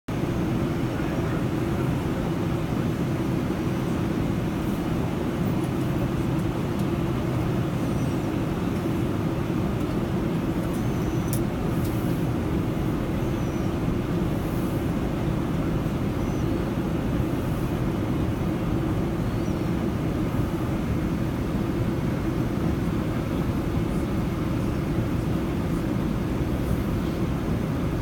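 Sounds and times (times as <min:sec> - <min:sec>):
airliner droning: 0:00.1 - 0:28.0.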